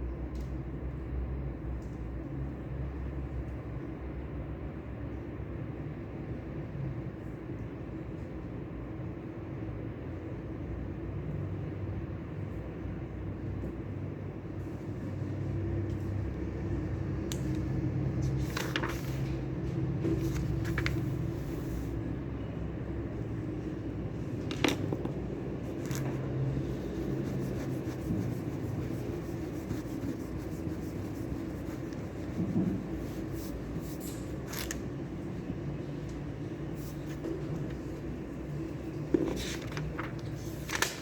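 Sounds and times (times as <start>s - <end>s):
low room hum: 0.0s - 41.0s.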